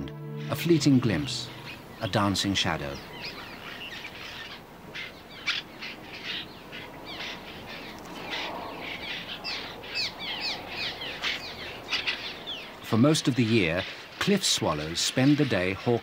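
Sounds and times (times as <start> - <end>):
swallows chirping: 0.4 - 16.0.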